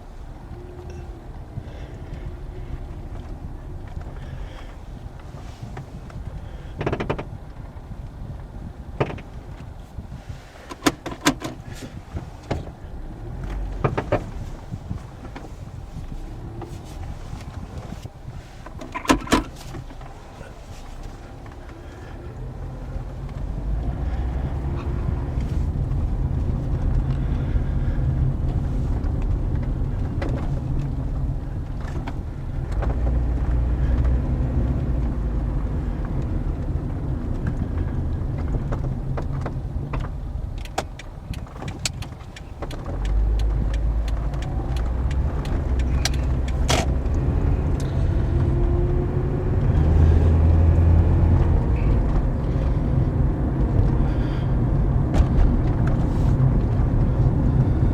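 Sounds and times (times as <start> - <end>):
car road and engine rumble: 0.0 - 57.9
sharp clunks and rattles: 0.4 - 57.9.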